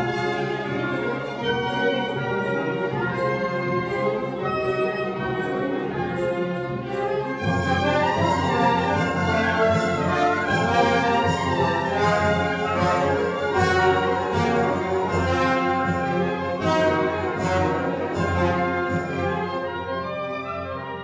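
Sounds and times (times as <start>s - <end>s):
orchestral music with brass: 0.0s - 21.0s.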